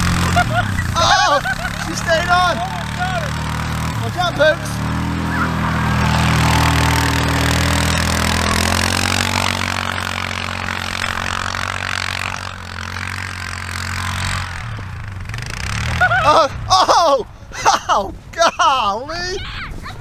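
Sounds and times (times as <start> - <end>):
quad bike engine passing: 0.0 - 19.1.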